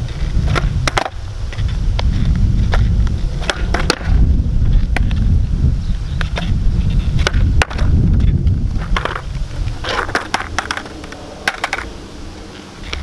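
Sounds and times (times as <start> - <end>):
skateboard clacks and scrapes: 0.0 - 5.4, 6.0 - 13.0
skateboard rumbling on asphalt: 0.0 - 13.0.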